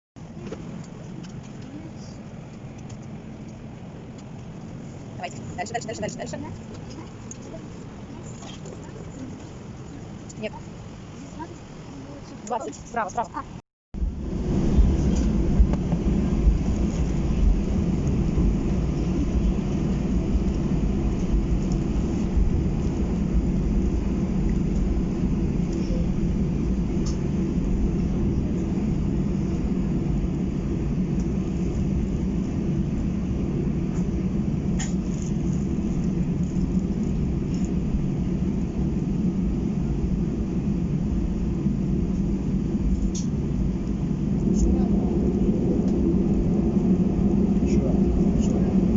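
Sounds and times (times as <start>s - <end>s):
airliner cabin engine rumble: 0.2s - 48.9s.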